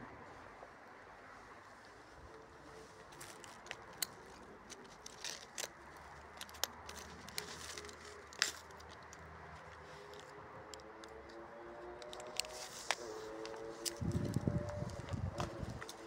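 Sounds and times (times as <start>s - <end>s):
footsteps on gritty asphalt: 1.8s - 16.0s.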